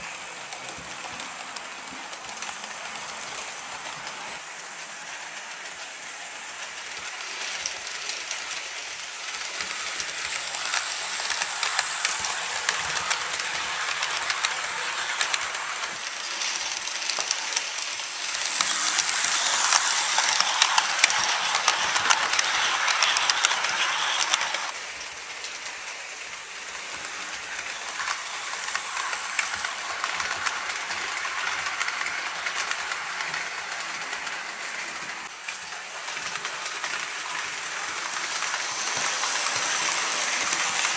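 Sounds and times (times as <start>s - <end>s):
model train rolling on track: 0.0s - 40.9s.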